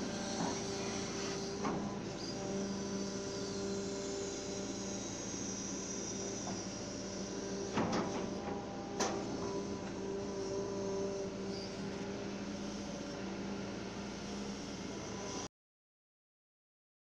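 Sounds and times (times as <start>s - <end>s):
excavator engine and hydraulic hum: 0.0s - 15.5s.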